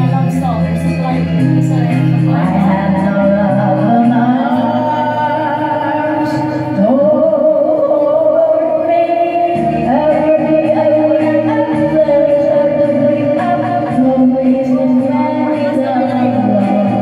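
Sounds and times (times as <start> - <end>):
backing music: 0.0 - 17.0
woman singing: 0.0 - 17.0.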